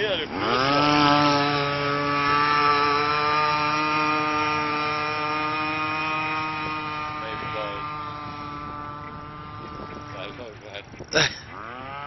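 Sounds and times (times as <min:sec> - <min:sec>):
boat two-stroke engine high pitch: 0:00.0 - 0:12.0.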